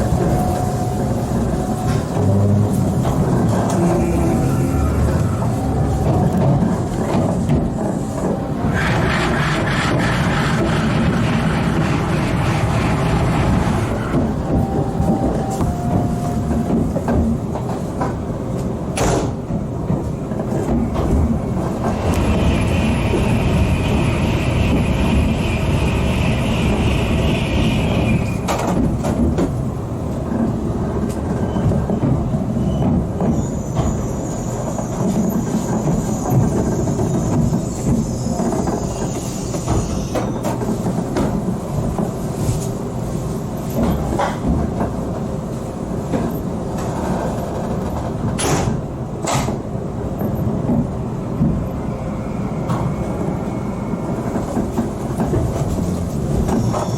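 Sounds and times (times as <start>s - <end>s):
train rumbling on track: 0.0s - 56.9s.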